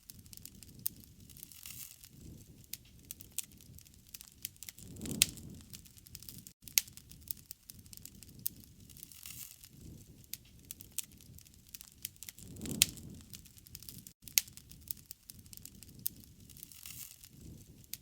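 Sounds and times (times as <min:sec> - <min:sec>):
campfire crackling and popping: 0:00.0 - 0:18.0
low rush of flames: 0:00.1 - 0:18.0.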